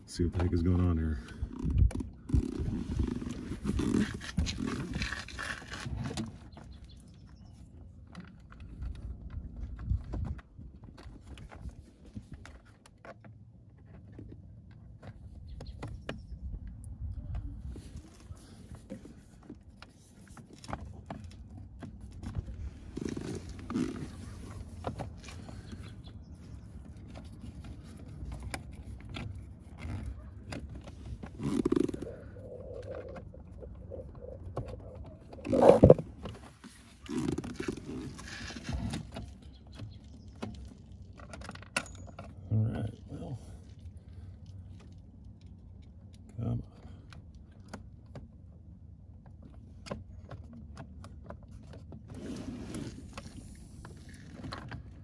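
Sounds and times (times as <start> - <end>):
low rumble of handling: 0.0 - 55.0.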